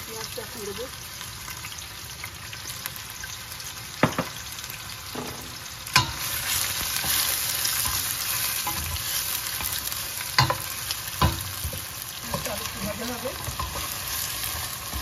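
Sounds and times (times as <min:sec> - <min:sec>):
onion sizzling in oil: 0:00.0 - 0:15.0.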